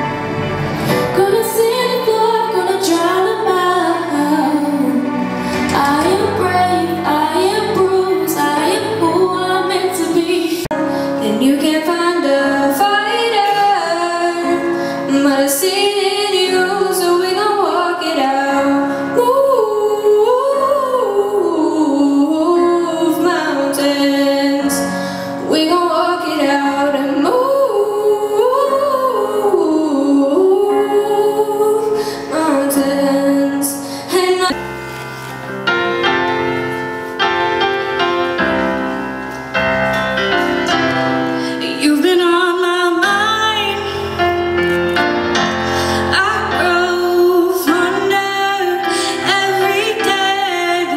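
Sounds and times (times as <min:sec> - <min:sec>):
musical accompaniment: 0:00.0 - 0:50.9
woman singing into microphone: 0:00.8 - 0:34.6, 0:41.4 - 0:44.7, 0:45.8 - 0:50.9.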